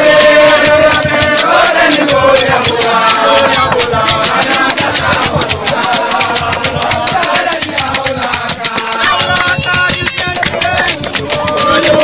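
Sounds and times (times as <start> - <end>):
hand percussion beat: 0.0 - 12.0
men chanting together: 0.0 - 12.0.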